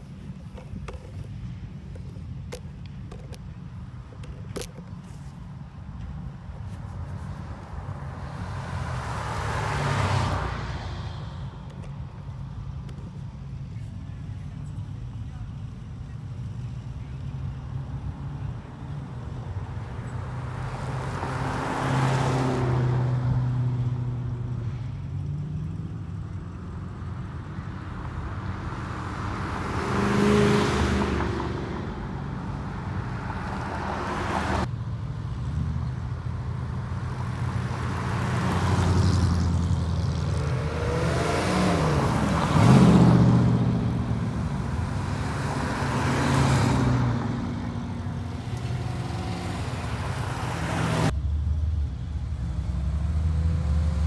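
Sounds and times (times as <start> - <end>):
car engines passing: 0.0 - 54.0.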